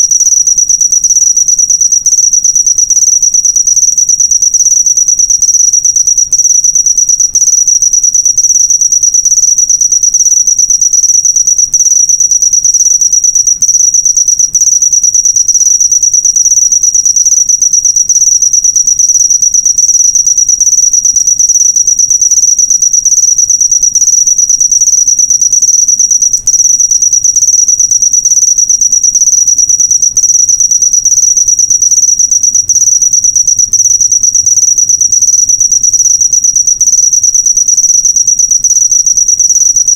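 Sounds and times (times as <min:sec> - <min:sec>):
cricket trilling: 0:00.0 - 0:39.9.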